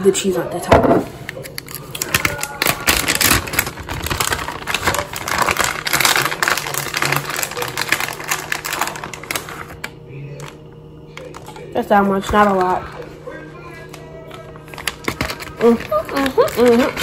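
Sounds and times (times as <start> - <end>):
plastic bag crinkling: 1.3 - 10.6, 11.2 - 17.0.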